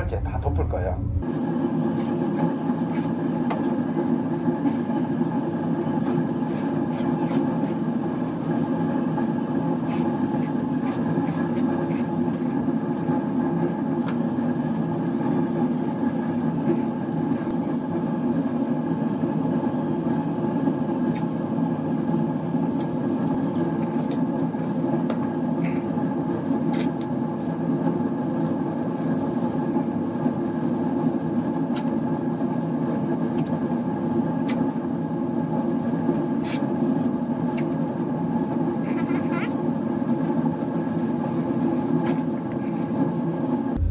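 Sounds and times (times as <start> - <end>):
ventilation fan humming: 0.0 - 43.9.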